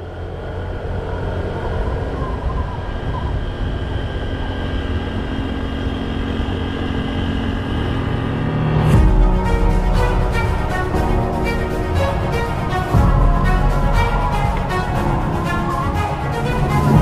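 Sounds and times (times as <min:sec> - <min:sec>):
motorcycle engine drone: 0:00.0 - 0:17.0
wind rushing over microphone: 0:00.4 - 0:17.0.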